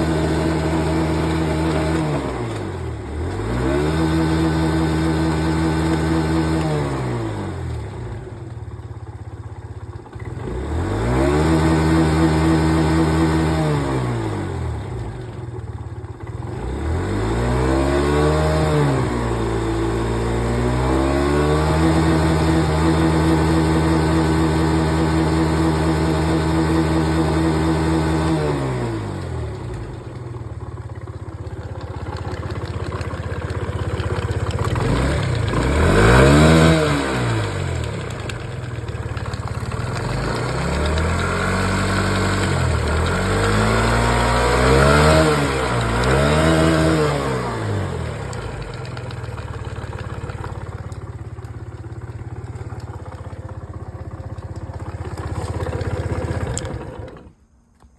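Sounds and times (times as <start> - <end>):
scooter engine revving: 0.0 - 57.9.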